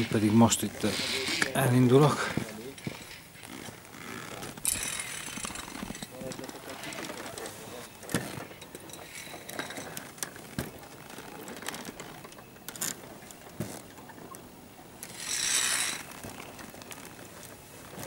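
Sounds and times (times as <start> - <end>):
wooden planks creaking underfoot: 0.0 - 18.0.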